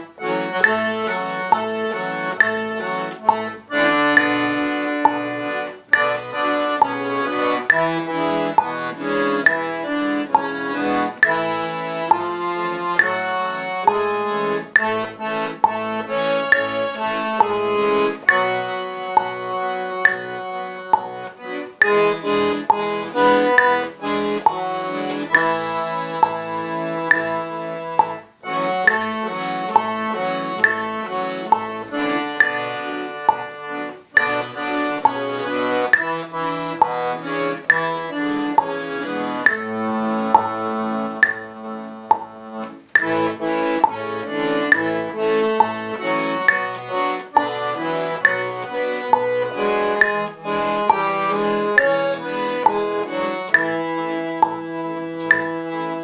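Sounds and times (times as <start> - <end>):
accordion playing slow tune: 0.0 - 56.0.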